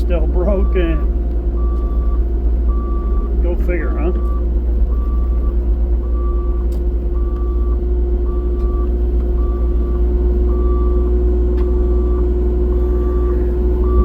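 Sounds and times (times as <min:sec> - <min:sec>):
excavator engine humming: 0:00.0 - 0:14.0
travel alarm beeping: 0:00.4 - 0:14.0.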